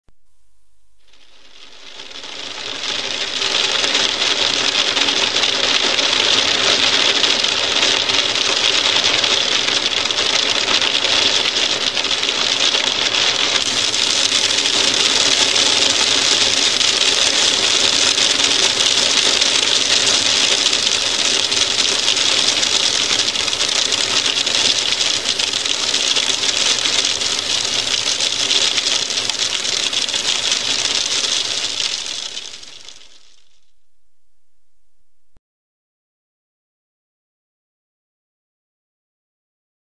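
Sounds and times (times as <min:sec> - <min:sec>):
hail pelting a window: 0:01.1 - 0:33.6.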